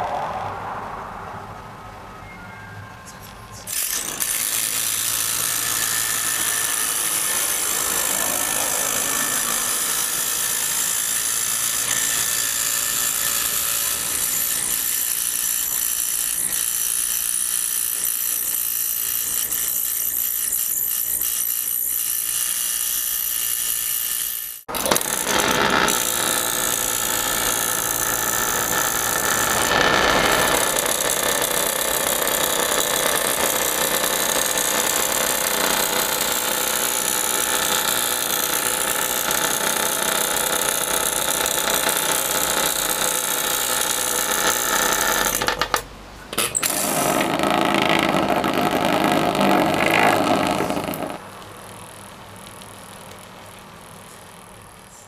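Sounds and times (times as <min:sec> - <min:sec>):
vibrobot buzzing and rattling: 0:03.6 - 0:55.0.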